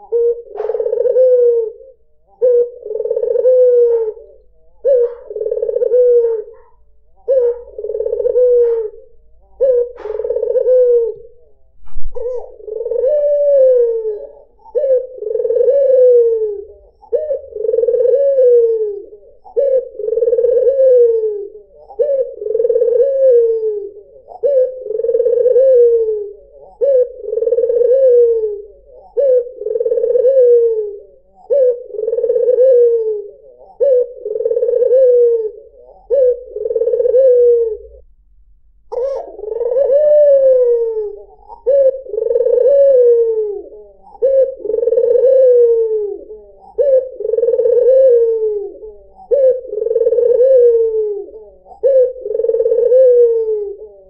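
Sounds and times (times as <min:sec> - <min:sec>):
dove cooing: 0:00.0 - 0:38.1, 0:38.9 - 0:54.0.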